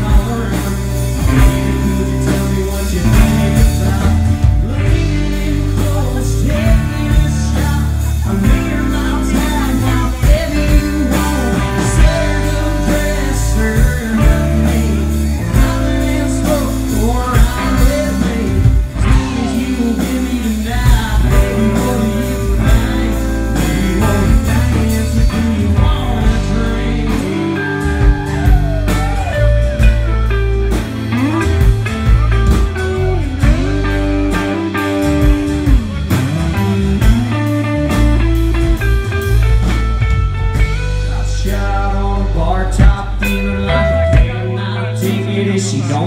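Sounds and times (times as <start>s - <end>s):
bass guitar: 0.0s - 46.0s
drums: 0.0s - 46.0s
electric lead guitar bending notes: 0.0s - 46.0s.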